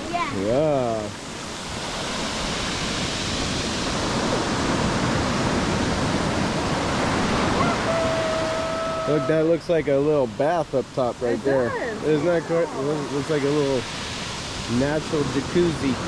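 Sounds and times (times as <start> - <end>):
surf on rocky shore: 0.0 - 16.0.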